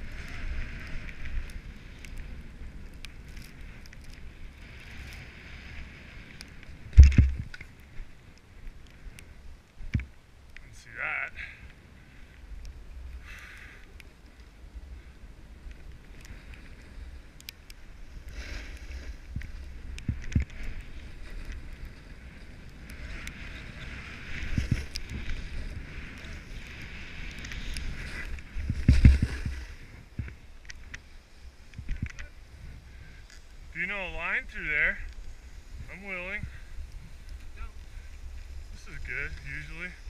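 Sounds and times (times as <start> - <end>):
skis scraping over snow: 0.0 - 9.9, 10.6 - 40.0
skis thumping on bumps: 0.0 - 40.0
wind rumbling on microphone: 0.0 - 40.0.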